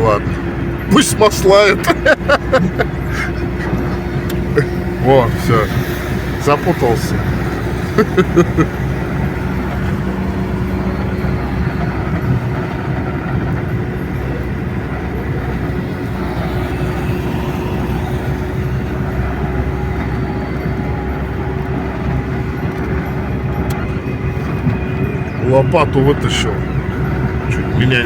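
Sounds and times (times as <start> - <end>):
truck engine rumble in cab: 0.0 - 28.0.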